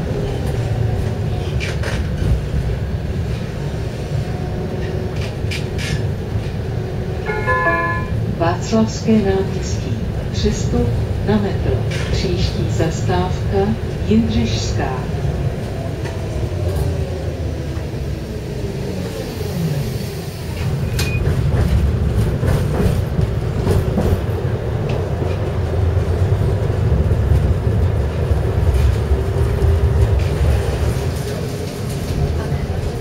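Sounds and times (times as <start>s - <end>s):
tram rumbling on rails: 0.0s - 33.0s.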